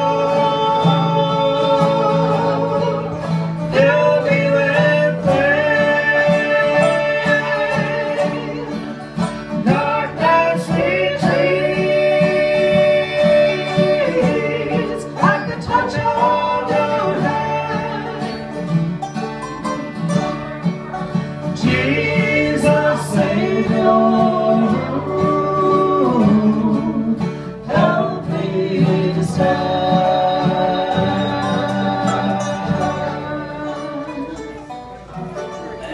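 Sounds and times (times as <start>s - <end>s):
people singing: 0.0s - 18.7s, 21.4s - 34.7s
acoustic guitar: 0.0s - 35.9s
mandolin: 0.0s - 35.9s
resonator guitar: 0.0s - 35.9s.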